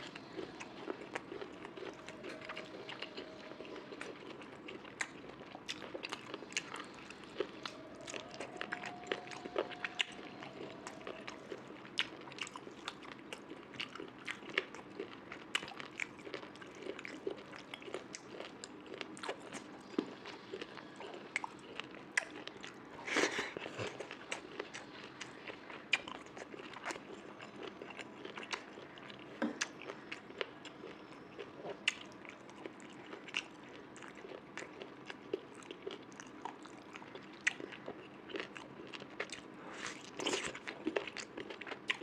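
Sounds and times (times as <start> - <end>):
close chewing and crunching: 0.0 - 42.0.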